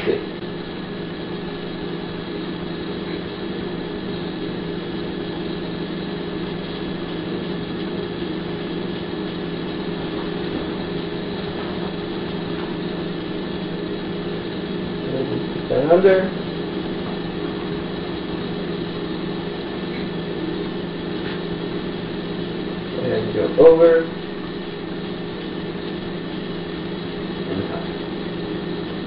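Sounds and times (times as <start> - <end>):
motor humming with faint hiss: 0.0 - 29.0.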